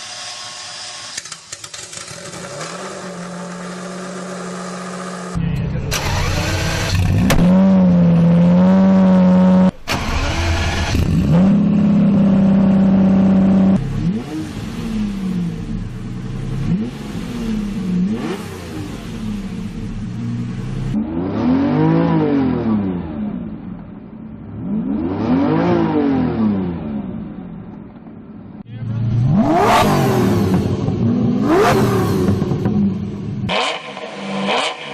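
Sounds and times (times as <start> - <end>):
car engine revving: 1.7 - 23.8, 28.7 - 34.9.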